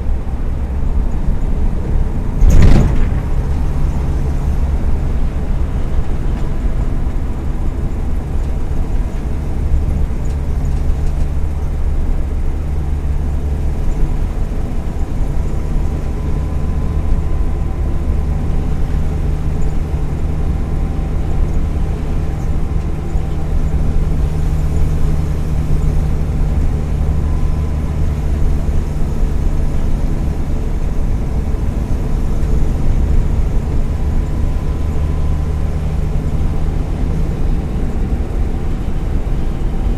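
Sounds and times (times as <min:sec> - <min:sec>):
van engine running steadily: 0:00.0 - 0:39.9.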